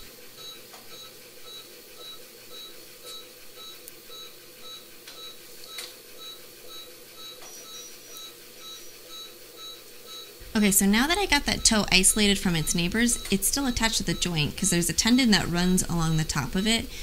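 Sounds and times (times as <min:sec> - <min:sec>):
faint steady hum: 0:00.0 - 0:17.0
monitor beeping: 0:00.4 - 0:17.0.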